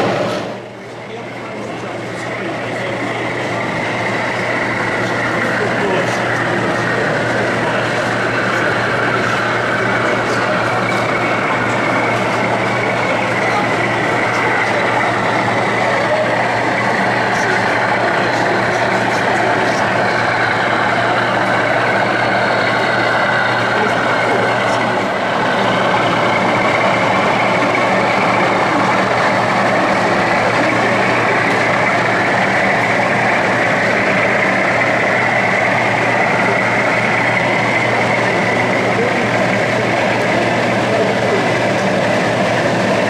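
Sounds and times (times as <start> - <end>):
engine-like running hum: 0.0 - 43.0
many voices: 0.0 - 43.0.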